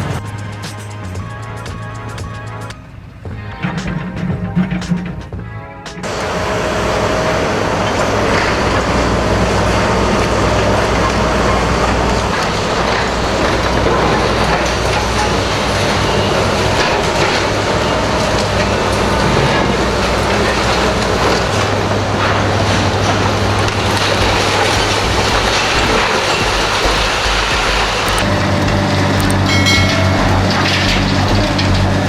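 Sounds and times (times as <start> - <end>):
heavy machinery running: 6.0 - 32.0.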